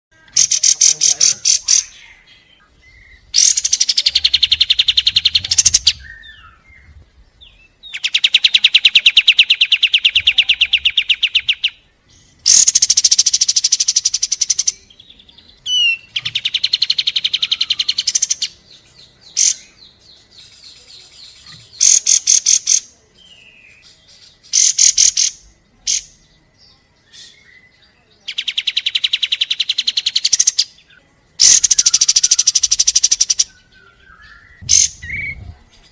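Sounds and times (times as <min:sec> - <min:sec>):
short bird calls: 0:00.1 - 0:26.2, 0:27.0 - 0:35.9
songbird fast trills: 0:00.2 - 0:26.4, 0:27.0 - 0:35.9.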